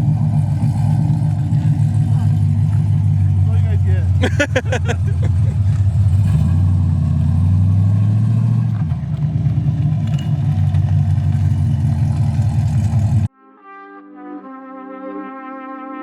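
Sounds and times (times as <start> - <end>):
car engine running: 0.0 - 13.3.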